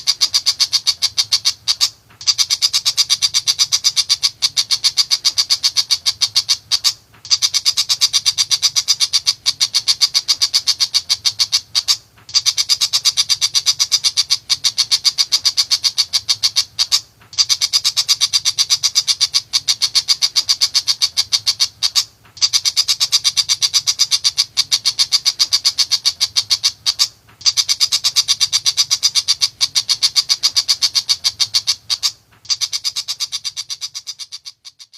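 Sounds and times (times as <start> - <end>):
faint low hum: 0.0 - 34.6
bird chattering call: 0.0 - 34.9.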